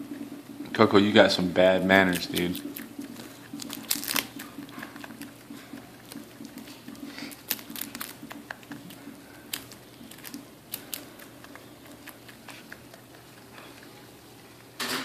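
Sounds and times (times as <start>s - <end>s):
lemur chewing crisp seaweed: 1.9s - 14.7s.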